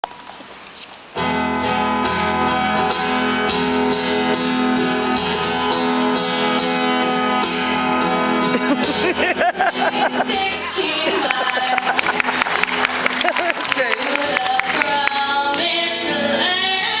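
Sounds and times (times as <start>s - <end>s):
acoustic guitar strumming: 1.2s - 17.0s.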